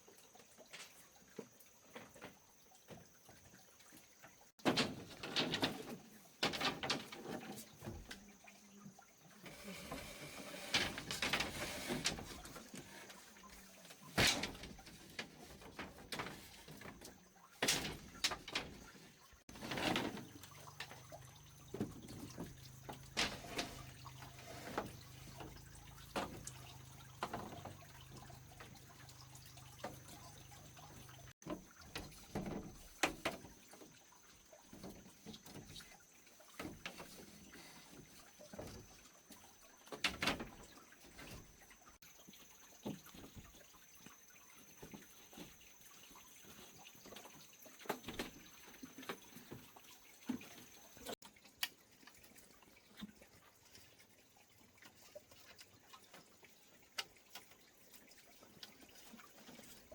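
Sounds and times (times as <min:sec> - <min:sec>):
water splashes and drips: 0:00.0 - 0:59.9.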